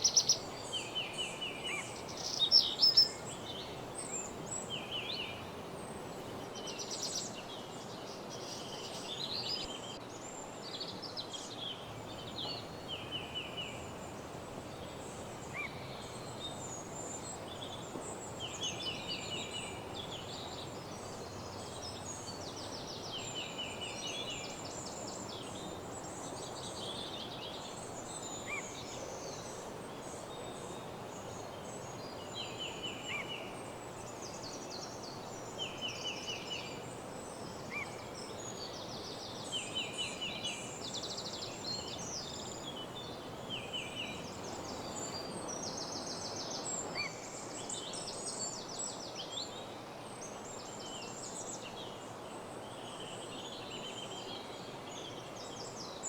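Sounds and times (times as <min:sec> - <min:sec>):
songbirds singing trills: 0:00.0 - 0:56.0.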